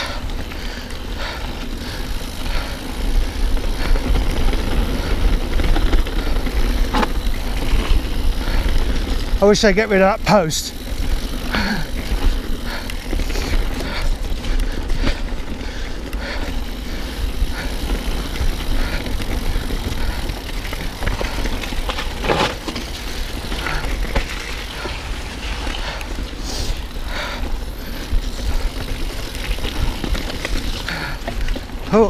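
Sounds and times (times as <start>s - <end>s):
bike parts rattling: 0.0s - 32.0s
bike tyres rolling on trail: 0.0s - 32.0s.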